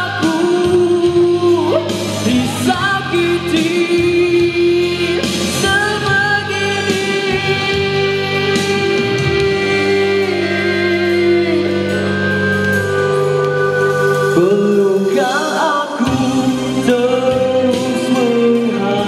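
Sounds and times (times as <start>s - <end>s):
man singing rock ballad: 0.0s - 13.4s, 14.3s - 19.0s
karaoke backing track: 0.0s - 19.0s.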